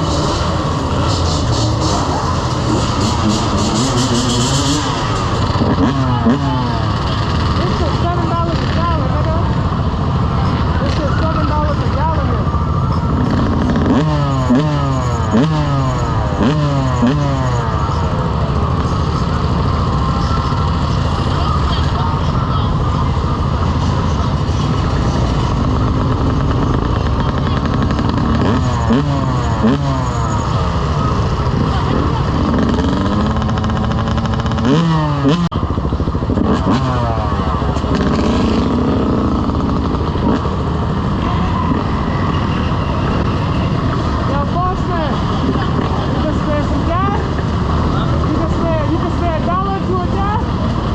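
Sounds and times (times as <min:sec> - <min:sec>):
engines rumbling: 0:00.0 - 0:50.9
motorcycle engine revving: 0:00.0 - 0:50.9
street noise: 0:00.0 - 0:50.9.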